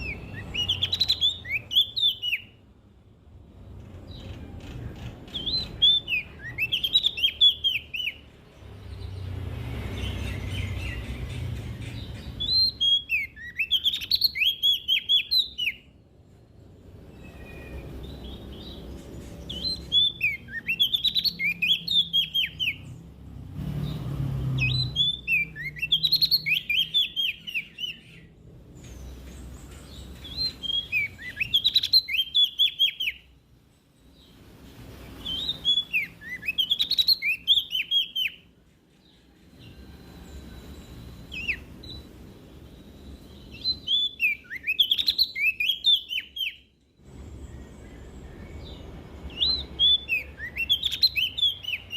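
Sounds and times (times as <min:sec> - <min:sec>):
leaf warbler singing: 0:00.0 - 0:51.9.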